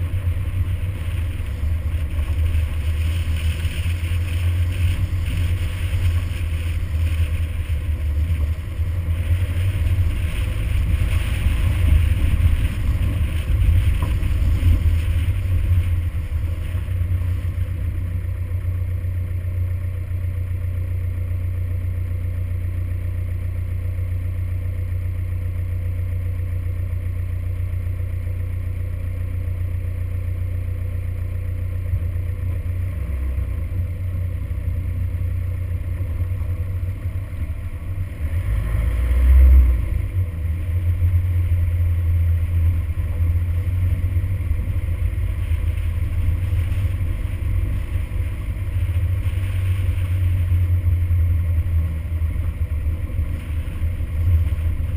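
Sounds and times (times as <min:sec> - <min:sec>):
vehicle engine and gravel road rumble: 0:00.0 - 0:54.9.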